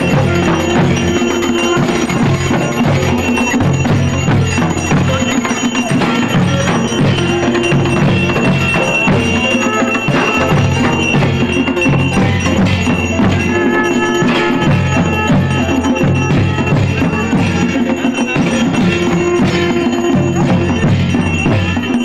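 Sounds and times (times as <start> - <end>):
ringing bell-like tones: 0.0 - 22.0
steady drumbeat: 0.0 - 22.0.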